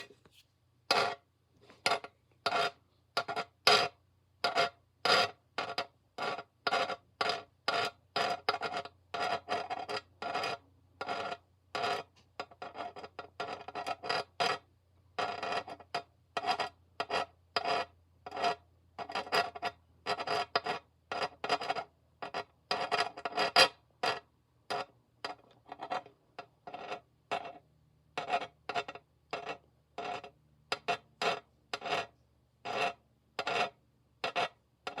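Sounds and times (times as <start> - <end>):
scratching strokes on a surface: 0.0 - 14.6, 16.4 - 24.9, 25.7 - 27.6, 28.2 - 35.0.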